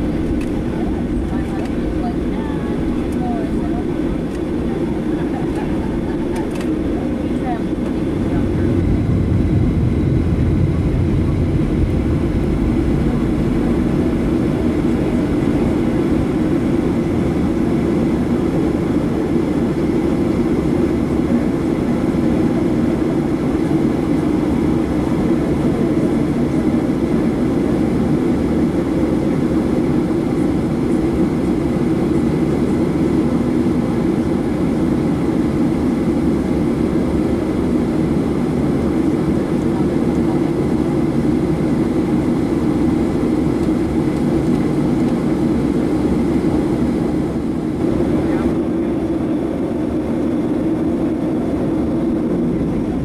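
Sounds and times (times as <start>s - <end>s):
jet engine cabin noise: 0.0s - 53.0s.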